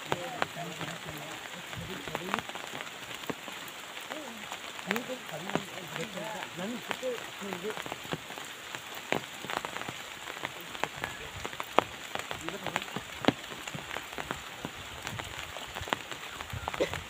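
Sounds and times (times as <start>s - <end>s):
raindrops tapping: 0.0s - 17.0s
steady rain hiss: 0.0s - 17.0s.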